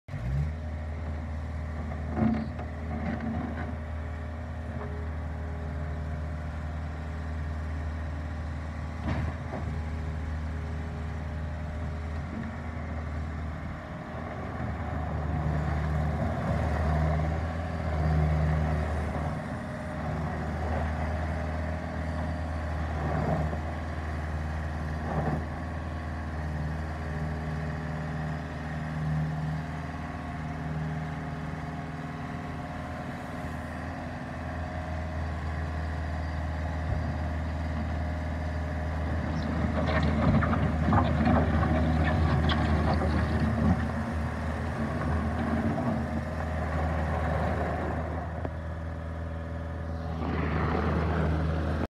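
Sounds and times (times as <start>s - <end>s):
diesel engine hum: 0.0s - 51.9s.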